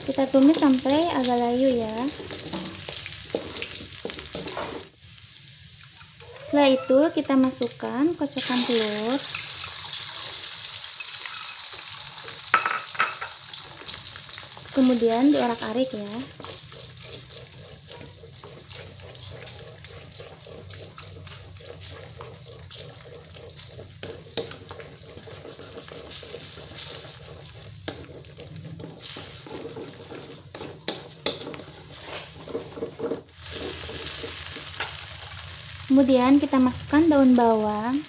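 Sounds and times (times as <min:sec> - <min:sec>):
eggs sizzling in a pan: 0:00.0 - 0:38.0.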